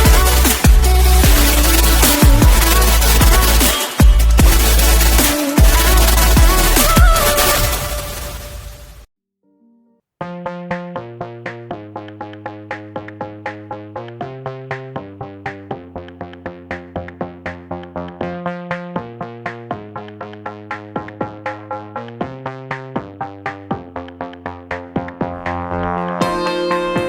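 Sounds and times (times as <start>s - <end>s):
pulsing synthesizer music: 0.0s - 9.0s, 10.9s - 27.0s.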